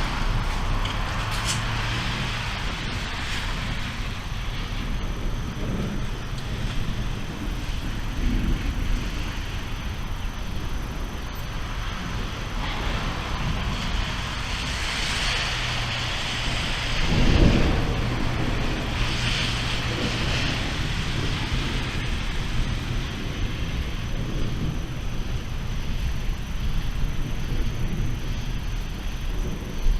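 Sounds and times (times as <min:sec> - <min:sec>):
rain hiss: 0:00.0 - 0:29.9
thunder rumbling: 0:00.0 - 0:29.9.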